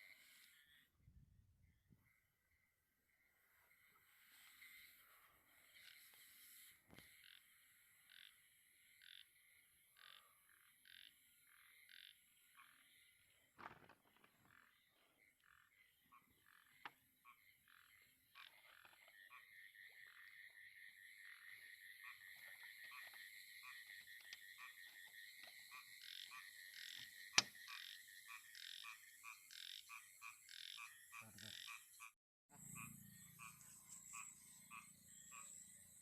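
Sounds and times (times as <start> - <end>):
frogs croaking: 1.9 - 36.0.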